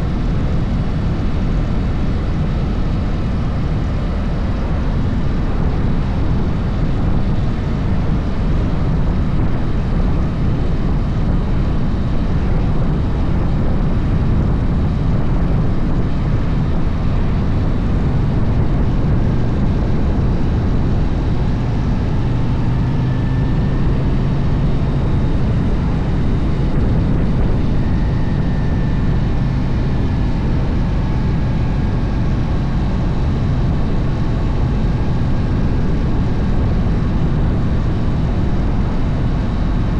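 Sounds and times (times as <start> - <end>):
motorcycle engine drone: 0.0 - 39.9
wind rushing: 5.0 - 39.9.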